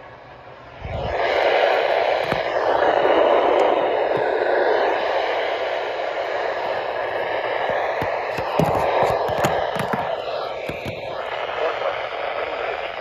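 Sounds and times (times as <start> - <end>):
radio static hiss: 0.9 - 13.0.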